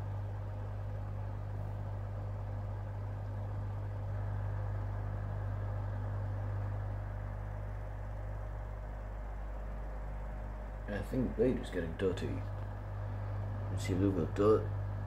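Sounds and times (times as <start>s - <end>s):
electric desk fan running: 0.0s - 15.0s.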